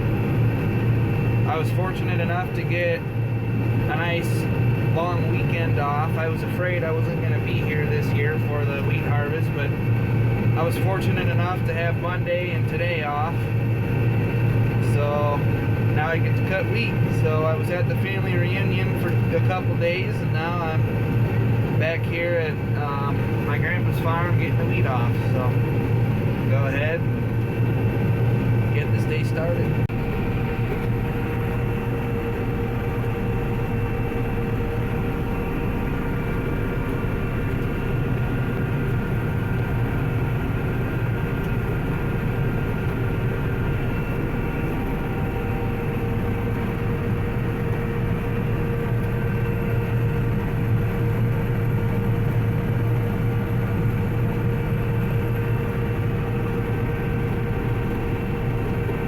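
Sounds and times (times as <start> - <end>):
combine harvester drone: 0.0 - 59.0
machinery whine: 0.0 - 59.0.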